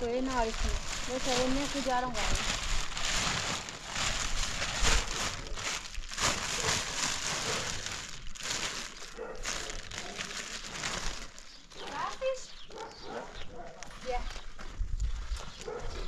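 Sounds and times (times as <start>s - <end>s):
plastic sheeting crinkling: 0.0s - 15.8s.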